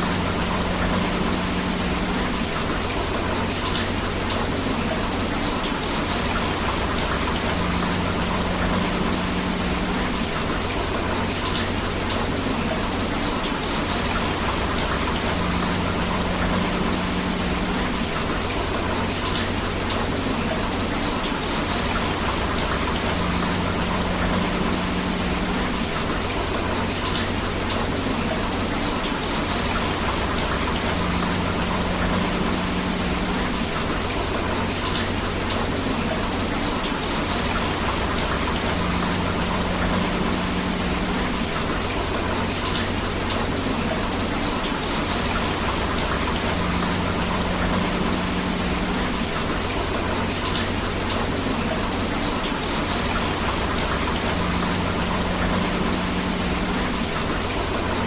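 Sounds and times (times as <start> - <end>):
river water flowing: 0.0 - 58.0
steady rain: 0.0 - 58.0.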